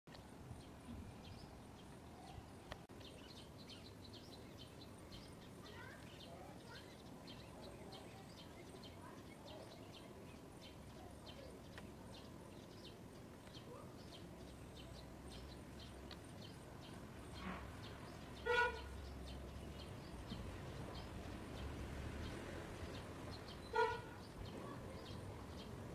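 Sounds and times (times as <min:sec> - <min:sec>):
small birds chirping: 0:00.1 - 0:25.9.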